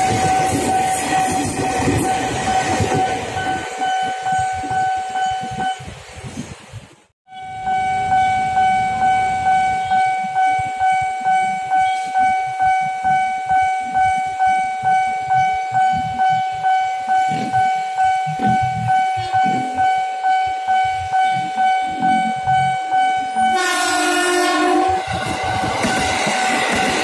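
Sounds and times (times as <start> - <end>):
level crossing warning bell: 0.0 - 5.9, 7.3 - 27.0.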